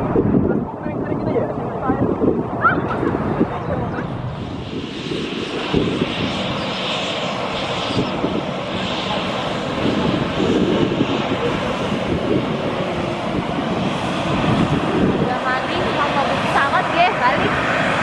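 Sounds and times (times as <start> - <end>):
jet engines rushing hiss: 0.0 - 18.0.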